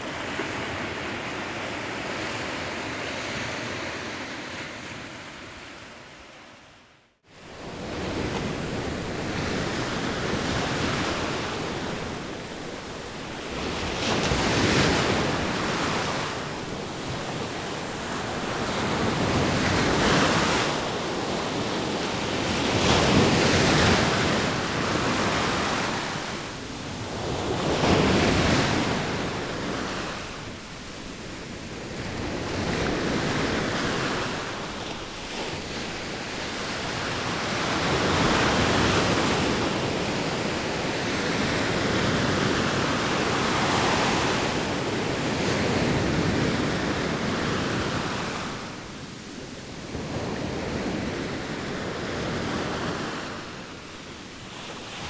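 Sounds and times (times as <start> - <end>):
sea waves washing ashore: 0.0 - 55.0.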